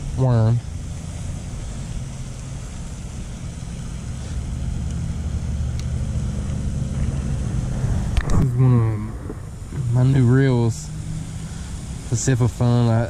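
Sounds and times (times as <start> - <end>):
fountain water hissing: 0.0 - 13.0
steady low rumble: 0.0 - 13.0.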